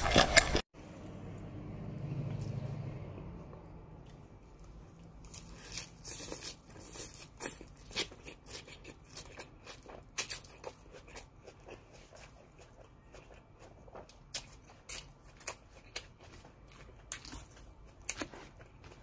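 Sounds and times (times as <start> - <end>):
crunching and chewing salad: 0.0 - 1.5, 3.4 - 19.0.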